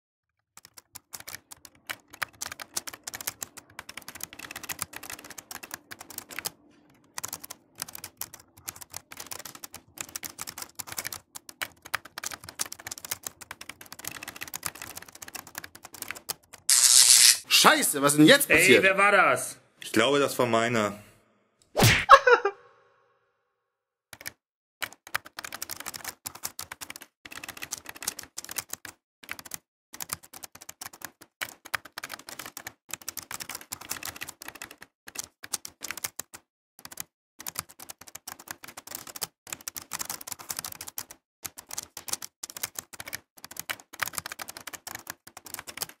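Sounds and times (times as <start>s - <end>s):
rapid typing on keys: 0.6s - 16.7s, 24.1s - 46.0s.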